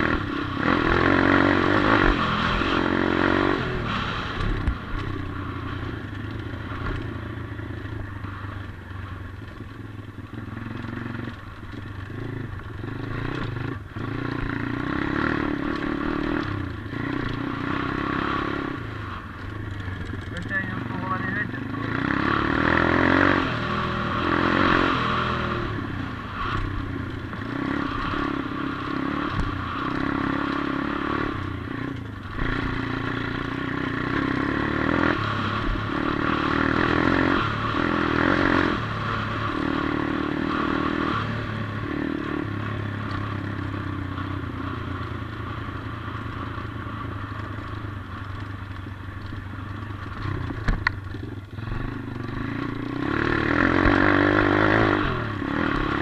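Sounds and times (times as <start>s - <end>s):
motorbike engine revving: 0.0s - 8.6s, 9.8s - 56.0s.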